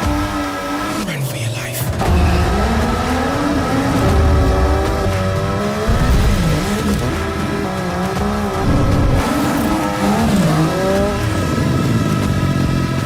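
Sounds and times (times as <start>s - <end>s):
motorcycle engine revving: 2.0s - 13.0s.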